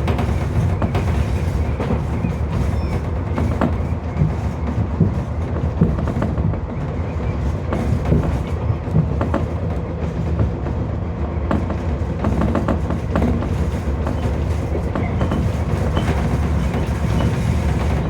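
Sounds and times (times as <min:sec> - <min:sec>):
electric train rumbling: 0:00.0 - 0:18.0
wheels clicking over rail joints: 0:00.0 - 0:18.0.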